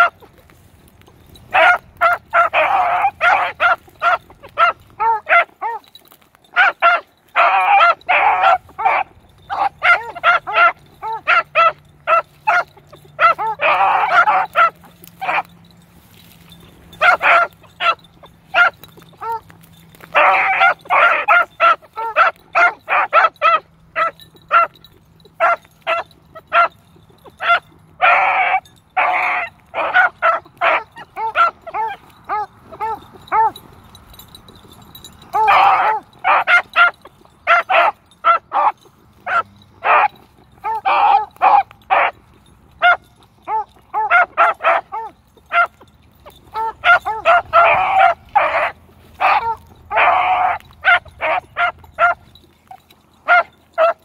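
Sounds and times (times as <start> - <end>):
hound pups barking and bawling: 0.0 - 54.0.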